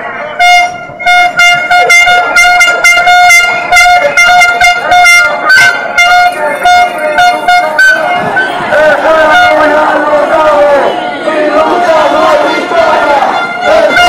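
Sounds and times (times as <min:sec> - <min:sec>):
horn short toots: 0:00.2 - 0:14.0.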